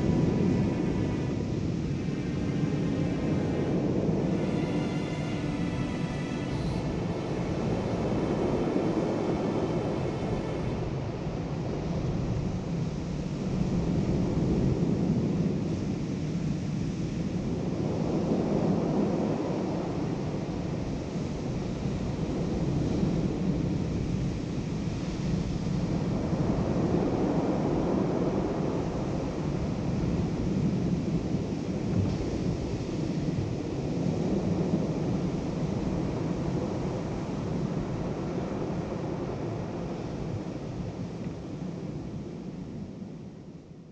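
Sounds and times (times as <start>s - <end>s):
wind buffeting microphone: 0.0s - 43.6s.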